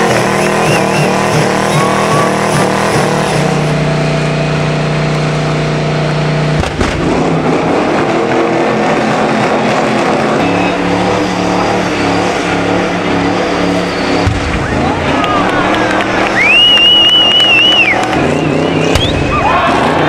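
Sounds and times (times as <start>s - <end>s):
car engine revving in burnout: 0.0s - 20.0s.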